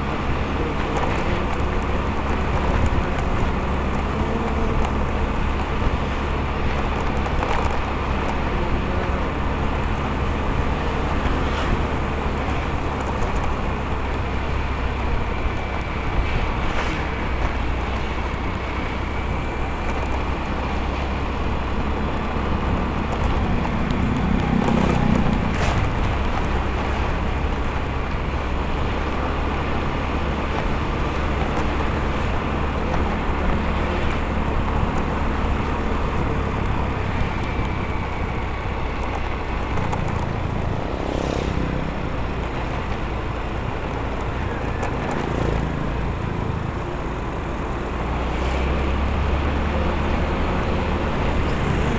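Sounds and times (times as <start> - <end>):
motorcycle engine: 0.0 - 51.9
road noise: 0.0 - 51.9.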